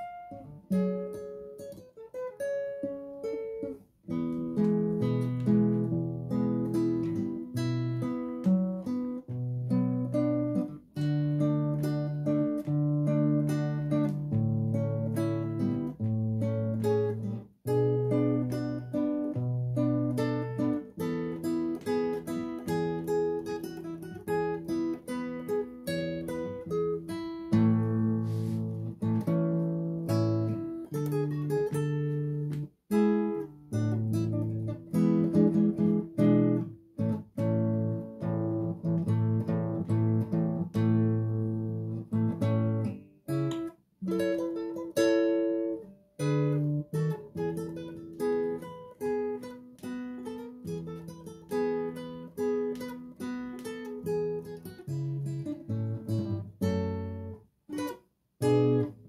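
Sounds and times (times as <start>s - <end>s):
classical guitar fingerstyle: 0.0s - 59.0s.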